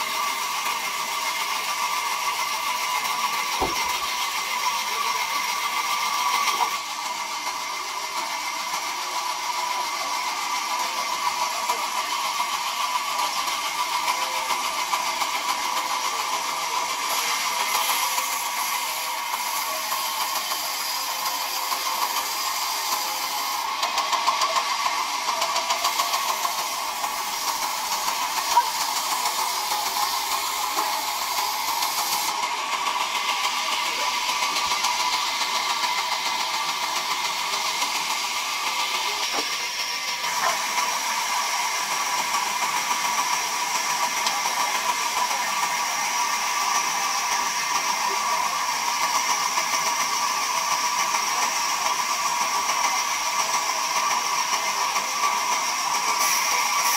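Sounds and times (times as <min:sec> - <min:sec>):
band saw whining: 0:00.0 - 0:56.9.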